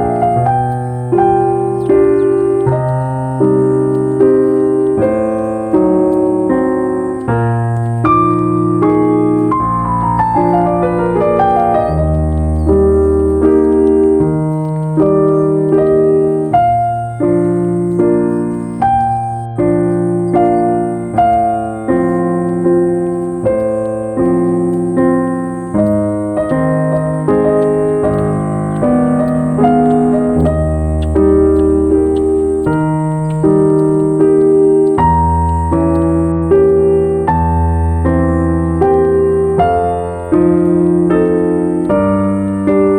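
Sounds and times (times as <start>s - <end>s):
slow solo piano music: 0.0s - 42.9s.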